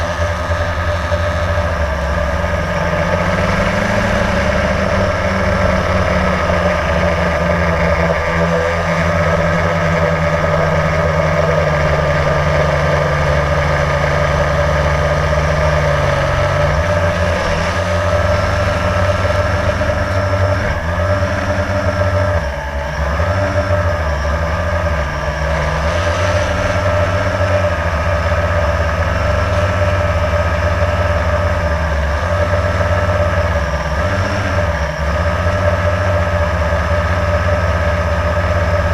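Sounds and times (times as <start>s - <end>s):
quadcopter motors humming: 0.0s - 38.9s.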